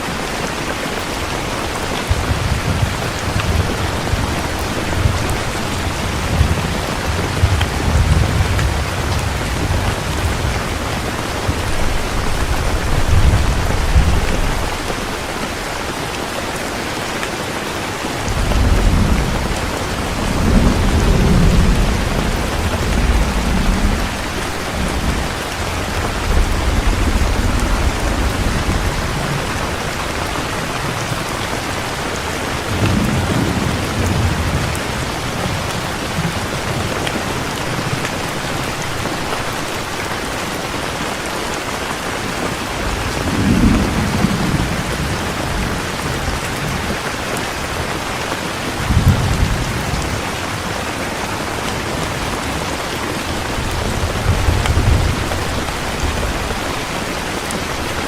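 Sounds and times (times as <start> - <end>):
heavy rain falling: 0.0 - 58.0
thunder rumbling: 1.0 - 15.9, 18.0 - 39.3, 42.6 - 48.1, 48.7 - 58.0.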